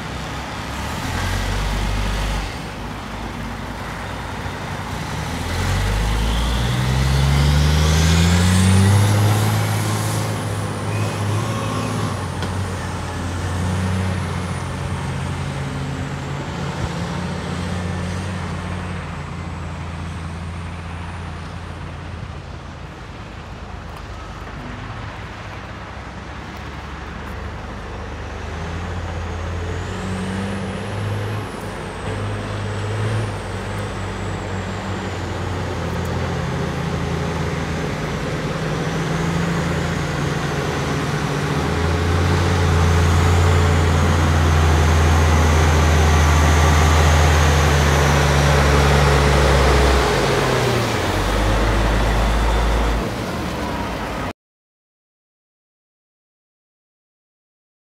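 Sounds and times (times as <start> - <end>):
dump truck diesel engine: 0.0 - 54.3.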